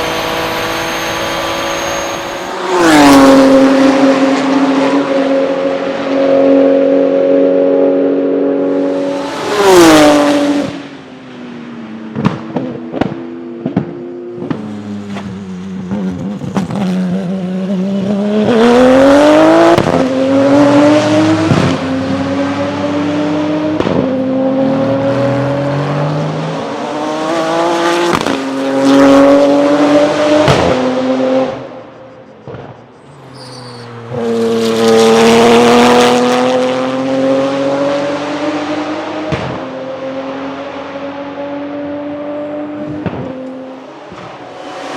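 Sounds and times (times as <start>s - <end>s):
racing car engine accelerating: 0.0s - 11.0s, 14.3s - 31.9s, 33.2s - 44.9s.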